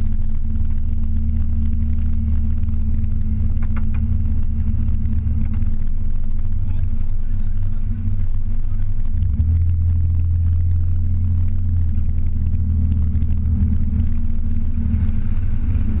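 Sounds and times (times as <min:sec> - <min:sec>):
car engine low drone: 0:00.0 - 0:16.0.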